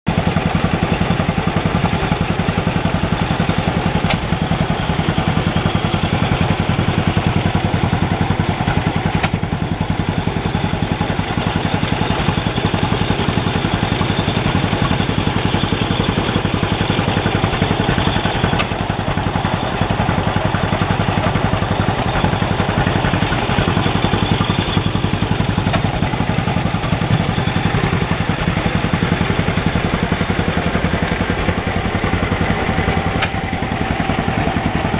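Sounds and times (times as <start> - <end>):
clatter of working machinery: 0.1 - 34.9
old stationary engines running: 0.1 - 34.9.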